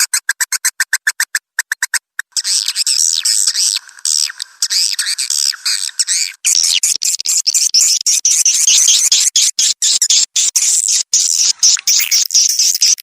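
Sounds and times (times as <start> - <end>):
swiftlet chirps and twitters: 0.0 - 13.0.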